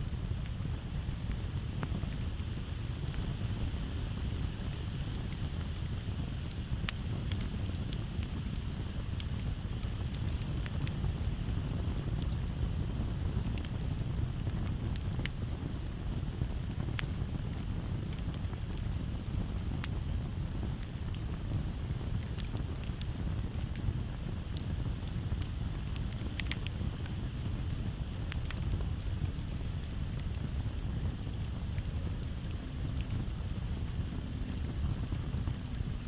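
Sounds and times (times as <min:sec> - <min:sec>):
campfire crackling and popping: 0:00.0 - 0:36.0
crickets trilling: 0:00.1 - 0:36.0.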